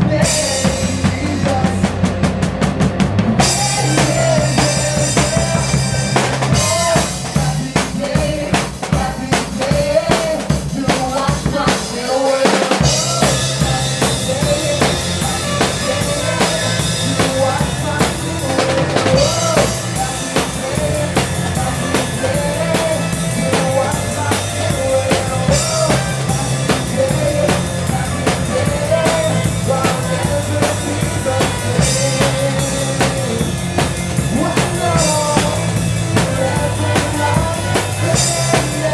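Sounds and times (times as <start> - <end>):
bass notes: 0.0 - 12.1, 12.8 - 38.9
drum kit: 0.0 - 38.9
live rock band instrumental: 0.0 - 38.9.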